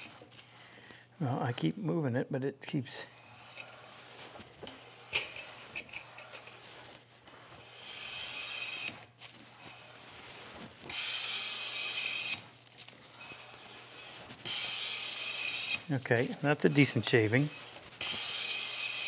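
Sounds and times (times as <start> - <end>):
hand plane shaving wood: 3.2 - 19.0.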